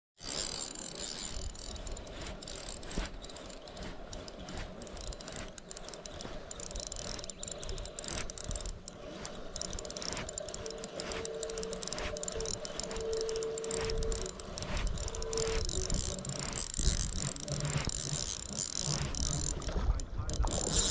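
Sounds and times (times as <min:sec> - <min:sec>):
mechanical clicking and rattling: 0:00.2 - 0:20.9.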